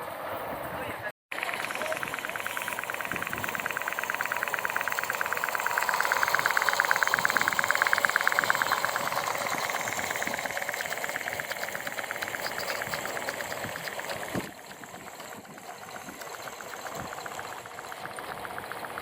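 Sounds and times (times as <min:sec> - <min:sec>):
model locomotive engine ticking: 0:01.3 - 0:19.0.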